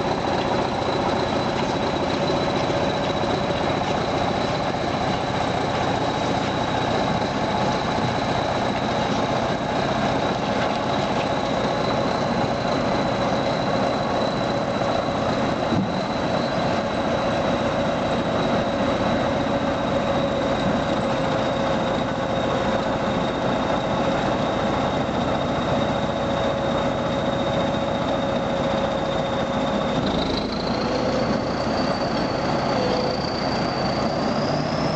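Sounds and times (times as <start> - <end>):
high engine whine: 0.0 - 34.9
tractor engine under load: 0.0 - 34.9.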